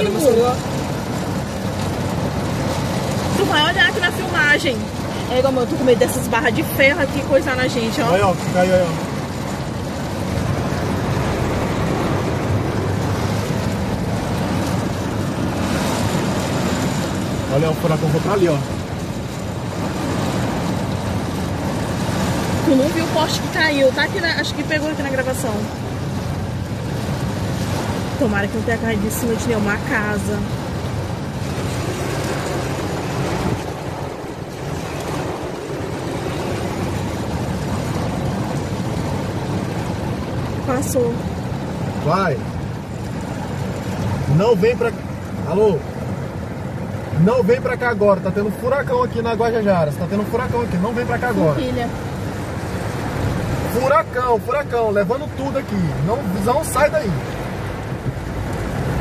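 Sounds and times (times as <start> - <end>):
storm wind: 0.0 - 48.3, 49.1 - 59.0
car running and road noise: 0.0 - 59.0
heavy rain beating on a car: 0.0 - 59.0.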